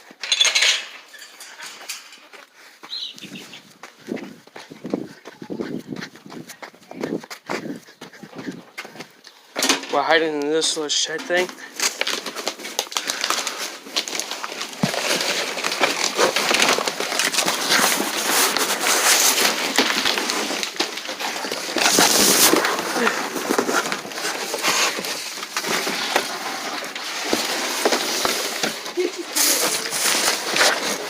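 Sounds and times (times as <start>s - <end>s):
rustling and crackling: 0.0s - 31.0s
people shuffling about: 1.3s - 31.0s.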